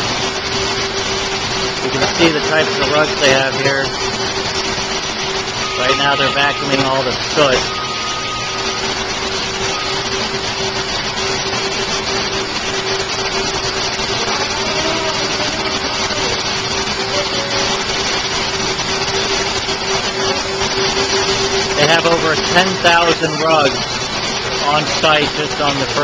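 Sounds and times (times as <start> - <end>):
vacuum cleaners running: 0.0 - 26.0.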